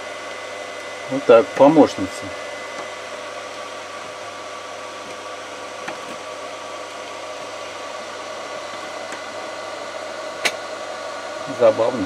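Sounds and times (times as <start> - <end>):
induction heater hissing: 0.0 - 12.0.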